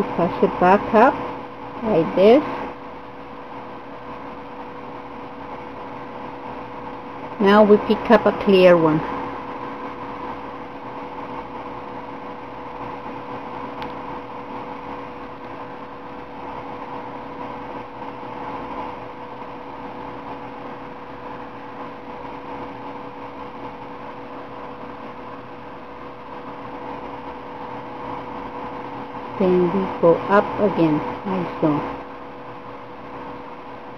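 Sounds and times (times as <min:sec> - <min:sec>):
steady mechanical hum: 0:00.0 - 0:33.9.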